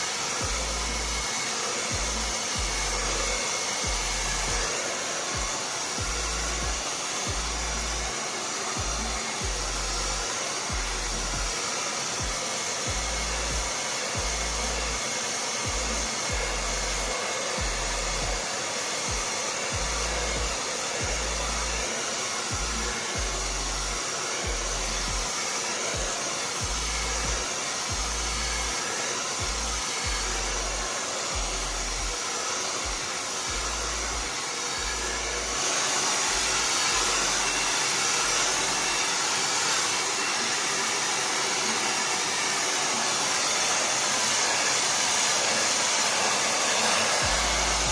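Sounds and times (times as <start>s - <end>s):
blow dryer running: 0.0s - 47.9s.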